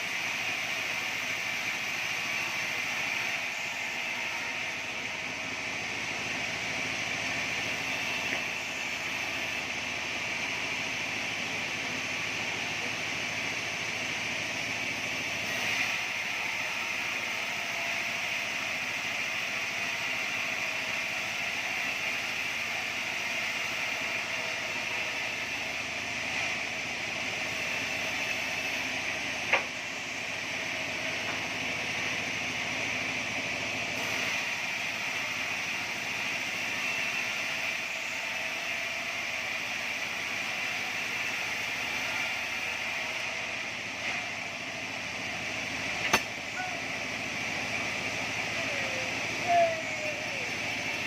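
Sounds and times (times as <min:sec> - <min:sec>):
band sawmill hissing: 0:00.0 - 0:51.0.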